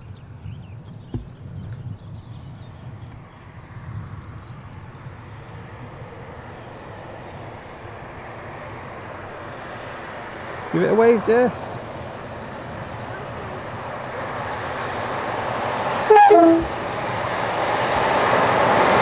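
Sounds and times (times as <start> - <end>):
diesel locomotive engine: 0.0 - 19.0
rail noise: 0.9 - 19.0.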